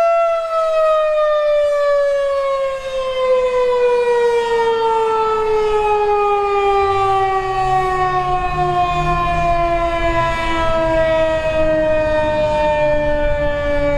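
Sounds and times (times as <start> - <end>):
warning siren winding down: 0.0 - 13.9.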